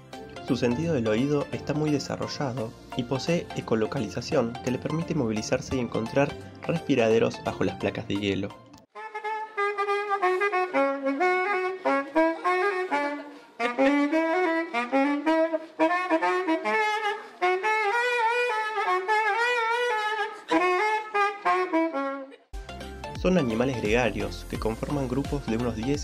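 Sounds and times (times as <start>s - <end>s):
saxophone melody: 0.5s - 8.1s, 8.8s - 22.5s.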